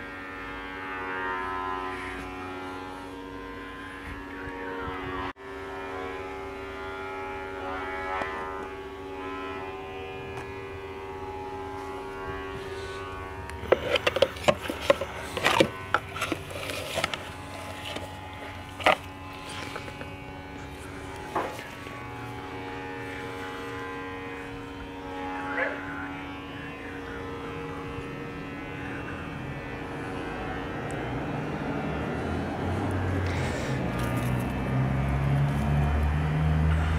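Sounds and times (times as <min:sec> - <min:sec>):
drone of held tones: 0:00.0 - 0:36.9.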